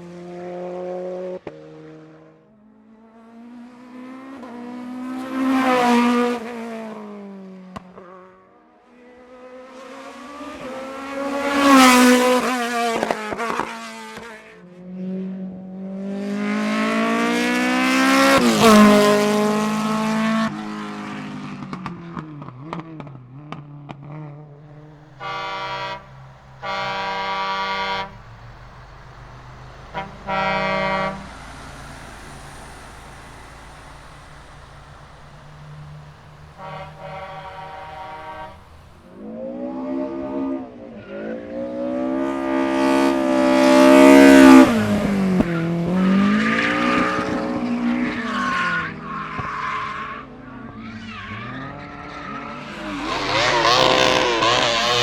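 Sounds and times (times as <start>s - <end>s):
race cars passing at full throttle: 0.0s - 55.0s.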